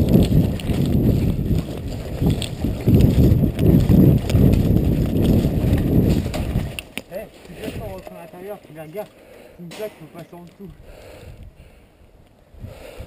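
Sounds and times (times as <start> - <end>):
footsteps on dirt path: 0.0 - 11.5.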